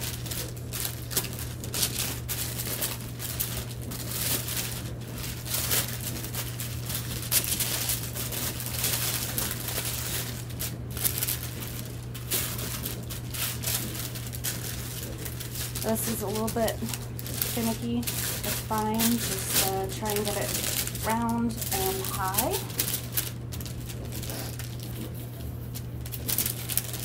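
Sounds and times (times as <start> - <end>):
dough being pressed by hand: 0.0 - 27.0
parchment paper crinkling: 0.0 - 27.0
steady low hum: 0.0 - 27.0.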